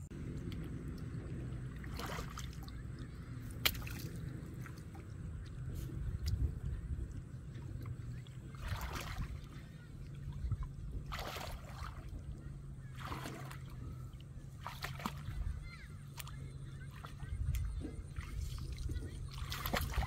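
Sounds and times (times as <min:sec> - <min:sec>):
hands splashing in muddy water: 0:00.4 - 0:06.7, 0:07.5 - 0:20.0.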